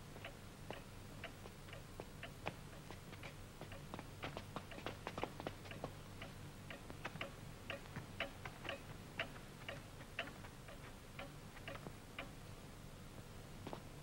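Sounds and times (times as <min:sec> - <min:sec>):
faint low hum: 0:00.0 - 0:14.0
light sharp ticking: 0:00.2 - 0:12.4.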